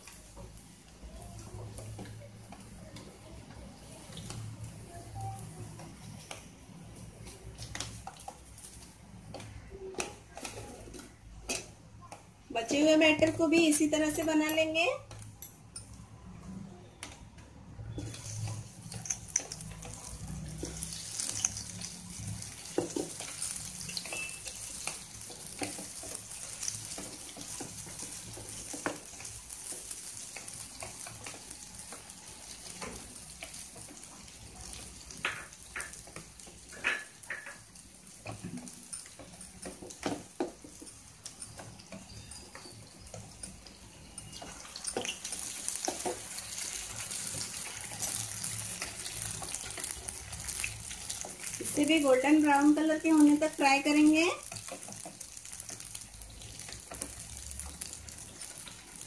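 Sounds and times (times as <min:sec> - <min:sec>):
deep-frying sizzle with pops: 0:00.0 - 0:59.0.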